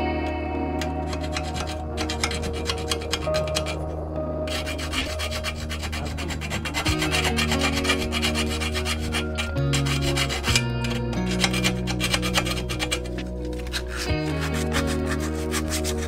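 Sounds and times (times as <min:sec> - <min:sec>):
background music with bass notes: 0:00.0 - 0:16.0
file rasping against steel tube: 0:00.8 - 0:03.9, 0:04.5 - 0:16.0.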